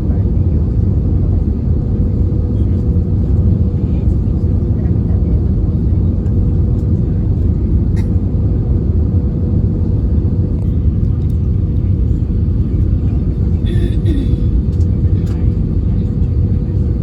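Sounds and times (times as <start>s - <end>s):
airliner engines and airflow rumble: 0.0s - 17.0s
constant cabin hum: 0.0s - 17.0s.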